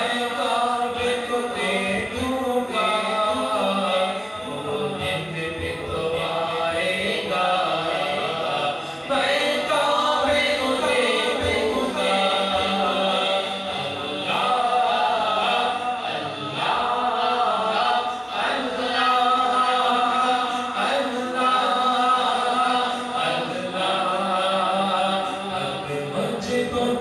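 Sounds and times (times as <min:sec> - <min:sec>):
layered backing voices: 0:00.0 - 0:27.0
man singing with echo: 0:00.0 - 0:27.0.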